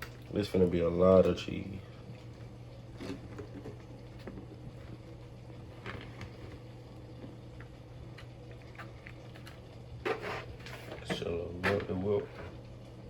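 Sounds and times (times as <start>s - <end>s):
cheese rustling into a pan: 0.0s - 12.9s.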